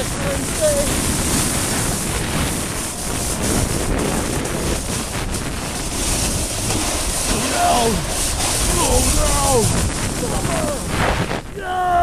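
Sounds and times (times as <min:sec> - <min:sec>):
snowboard scraping over snow: 0:00.0 - 0:12.0
wind rushing over microphone: 0:00.0 - 0:12.0.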